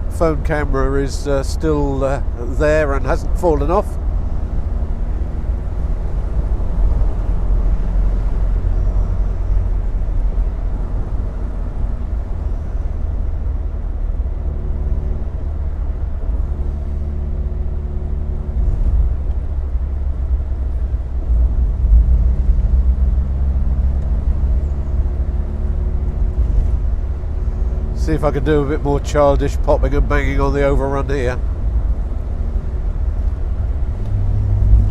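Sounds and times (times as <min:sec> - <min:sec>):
car engine: 0:00.0 - 0:34.9
wind and road noise: 0:00.0 - 0:34.9.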